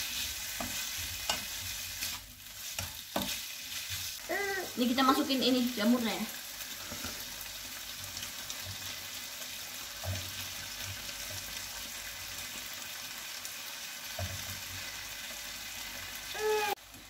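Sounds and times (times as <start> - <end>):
mushrooms sizzling in hot oil: 0.0 - 17.0.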